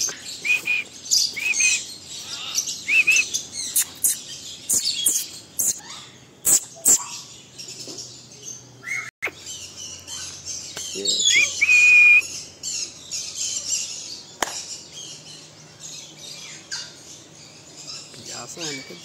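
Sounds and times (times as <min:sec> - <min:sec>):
caged birds chirping: 0:00.0 - 0:19.0.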